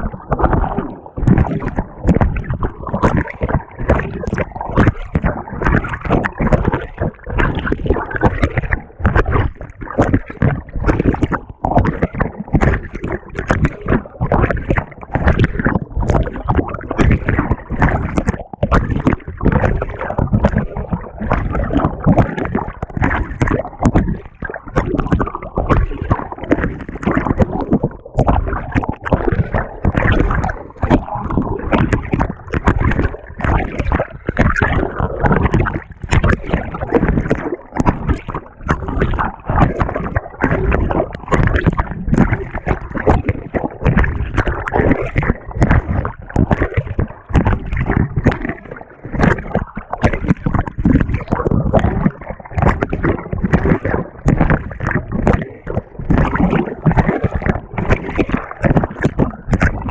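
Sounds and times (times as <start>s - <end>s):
water sloshing in washing machine: 0.0s - 59.9s.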